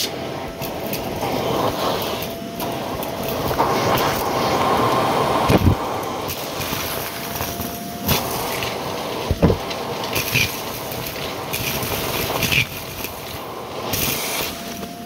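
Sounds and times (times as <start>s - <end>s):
debris crunching in vacuum: 0.0s - 15.0s
vacuum cleaner running: 0.0s - 15.0s.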